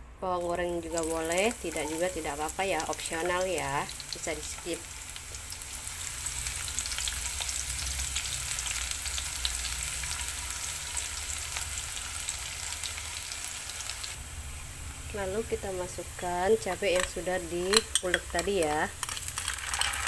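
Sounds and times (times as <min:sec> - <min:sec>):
shallots sizzling in hot oil: 0:00.4 - 0:20.0.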